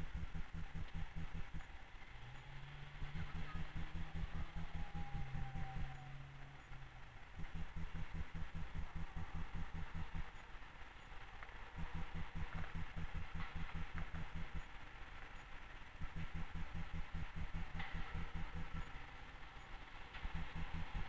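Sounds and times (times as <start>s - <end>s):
low rumble of street noise: 0.0s - 21.0s.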